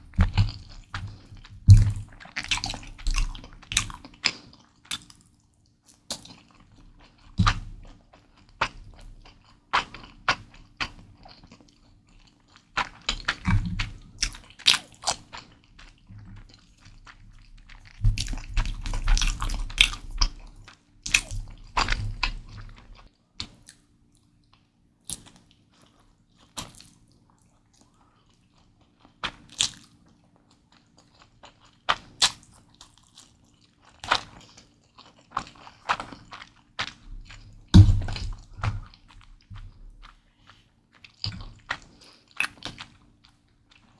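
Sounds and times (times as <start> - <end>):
chewing noodles: 0.0 - 43.9.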